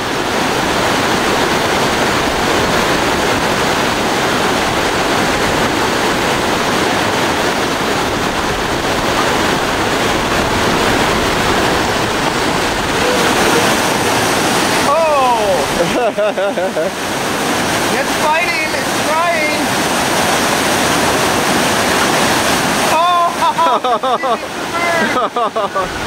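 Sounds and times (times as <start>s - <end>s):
water rushing and churning: 0.0s - 26.0s.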